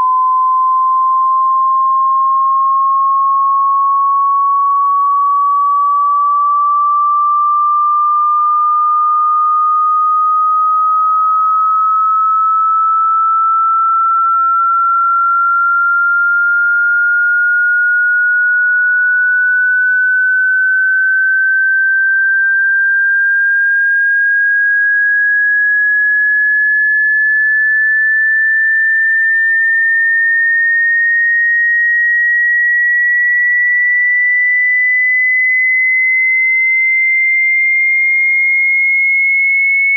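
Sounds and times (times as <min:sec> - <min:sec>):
rising sine tone: 0:00.0 - 0:39.9.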